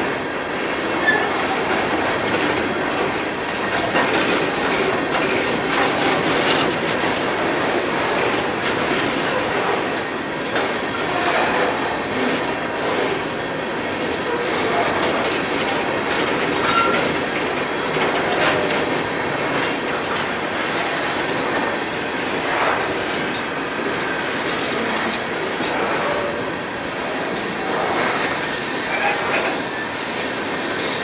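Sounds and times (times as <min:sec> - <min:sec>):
train wheels rumbling on rail: 0:00.0 - 0:31.0
wheels clickety-clack on rail joints: 0:00.0 - 0:31.0.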